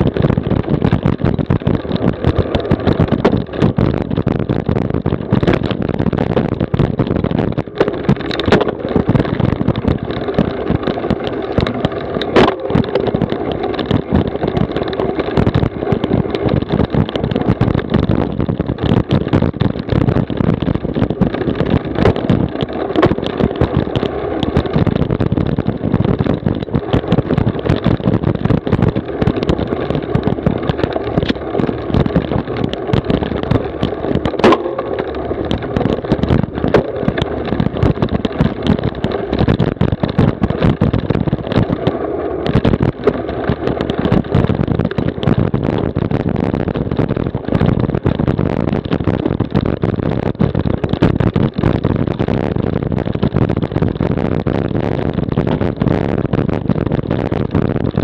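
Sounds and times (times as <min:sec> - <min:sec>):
bike rattling over bumpy ground: 0:00.0 - 0:58.0
tyre noise: 0:00.0 - 0:58.0
wind on microphone: 0:00.0 - 0:58.0.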